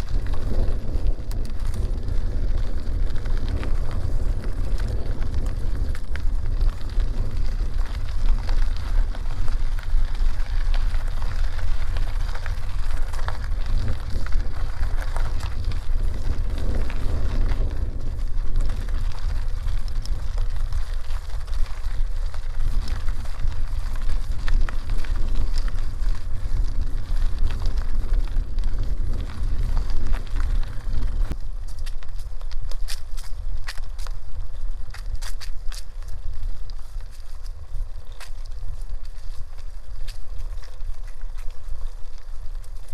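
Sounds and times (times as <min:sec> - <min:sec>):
bicycle tyres on dirt road: 0:00.0 - 0:42.9
wind on microphone: 0:00.0 - 0:42.9.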